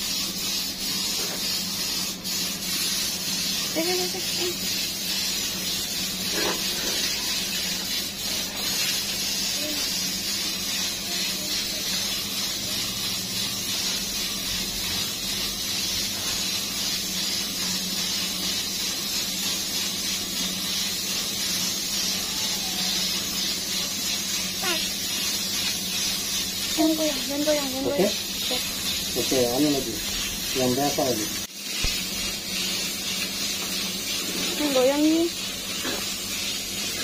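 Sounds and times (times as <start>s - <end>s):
spray gun hissing: 0.0s - 37.0s.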